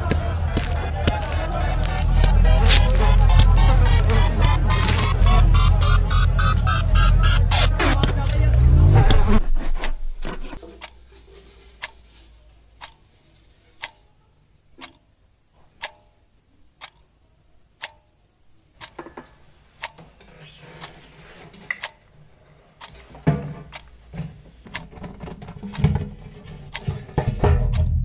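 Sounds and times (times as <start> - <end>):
clock ticking: 0.0 - 11.1, 11.8 - 12.0, 12.8 - 13.0, 13.8 - 19.1, 19.7 - 20.1, 20.7 - 21.1, 21.7 - 22.1, 22.8 - 28.0.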